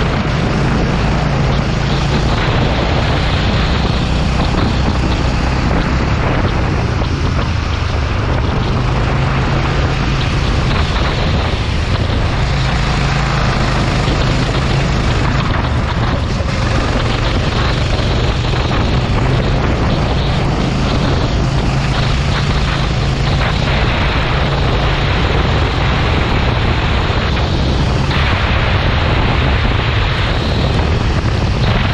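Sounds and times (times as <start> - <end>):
dense rushing noise: 0.0 - 31.9
go-kart engine running: 0.0 - 31.9.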